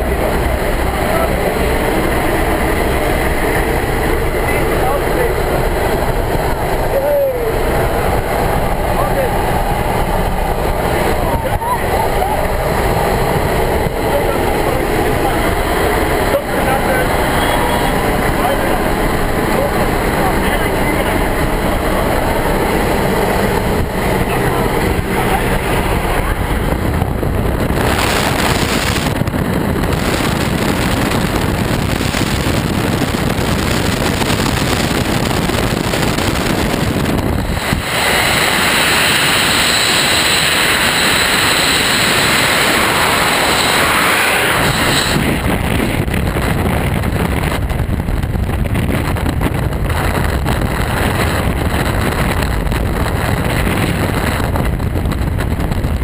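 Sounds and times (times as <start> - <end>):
aircraft engine noise: 0.0 - 56.0
wind blasting microphone: 0.0 - 56.0
wind rushing: 0.0 - 56.0.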